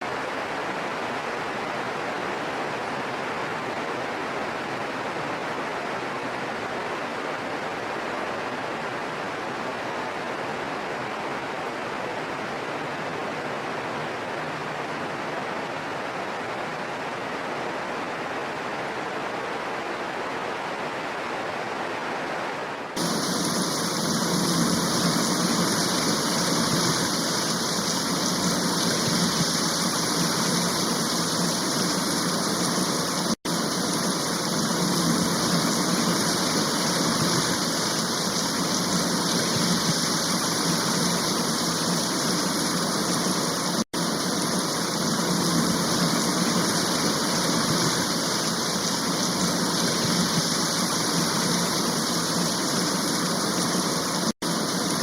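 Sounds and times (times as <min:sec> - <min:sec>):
steady rainfall hiss: 0:00.0 - 0:55.0.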